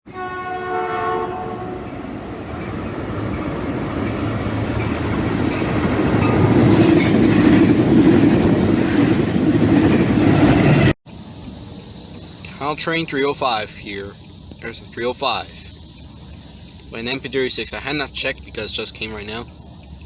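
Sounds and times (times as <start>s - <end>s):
passenger train passing: 0.1s - 16.2s.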